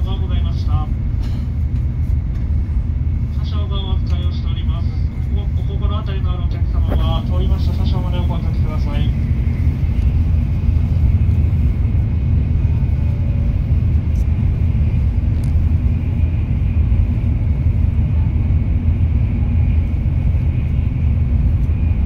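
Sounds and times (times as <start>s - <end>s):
train rumble inside cabin: 0.0s - 22.0s.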